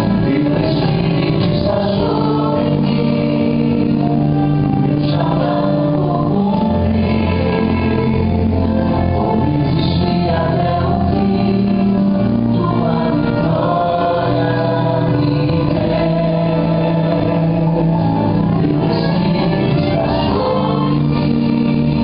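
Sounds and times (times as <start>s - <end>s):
choir singing gospel song: 0.0s - 22.0s
steady bass accompaniment: 0.0s - 22.0s.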